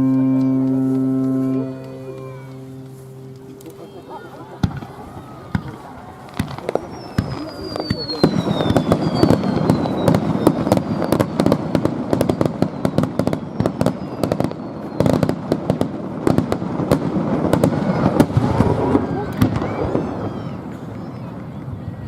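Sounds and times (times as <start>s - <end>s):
falling firework whistles: 0.0s - 15.8s, 17.5s - 22.0s
fireworks bangs and crackles: 0.0s - 22.0s.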